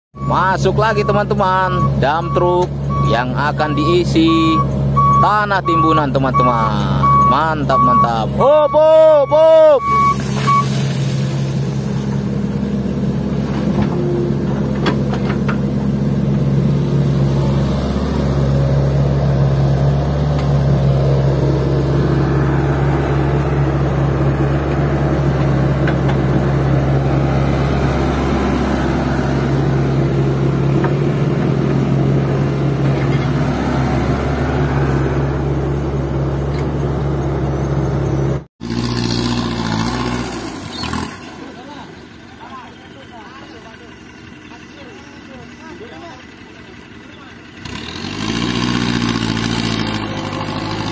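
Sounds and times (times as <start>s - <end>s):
diesel engine running: 0.2s - 50.9s.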